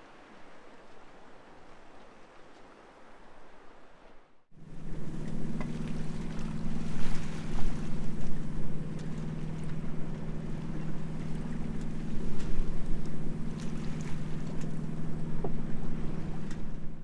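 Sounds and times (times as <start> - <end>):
boat engine humming: 0.0 - 17.0
wind and water noise: 0.0 - 17.0.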